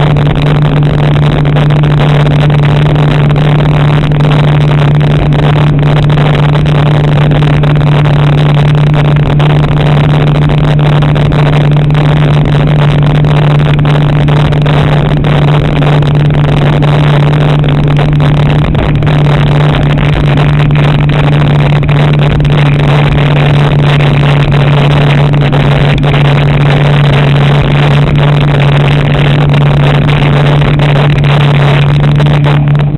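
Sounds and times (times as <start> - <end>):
jet ski engine running: 0.0 - 32.9
rush of noise: 0.0 - 32.9.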